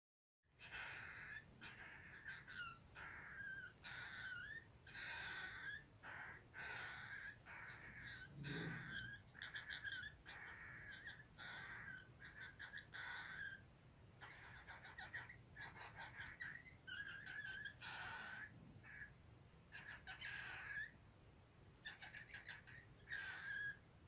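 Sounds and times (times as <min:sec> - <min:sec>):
cockatiel chick begging calls: 0:00.6 - 0:19.1, 0:19.7 - 0:21.0, 0:21.8 - 0:23.8.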